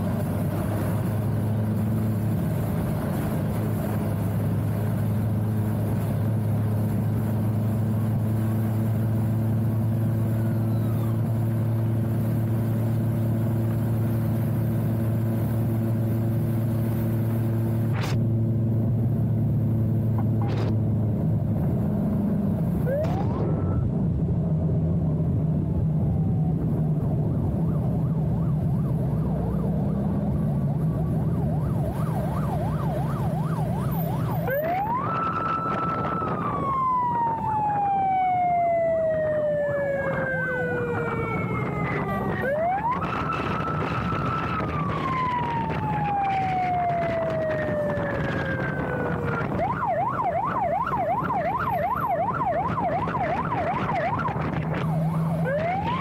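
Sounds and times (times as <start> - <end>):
motorcycle siren yelping and wailing: 0.0 - 18.2, 22.6 - 56.0.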